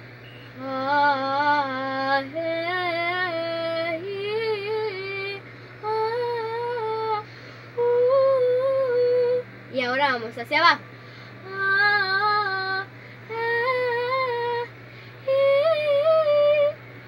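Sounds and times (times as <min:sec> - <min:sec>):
girl singing vocal warm-up: 0:00.6 - 0:10.8, 0:11.4 - 0:16.8.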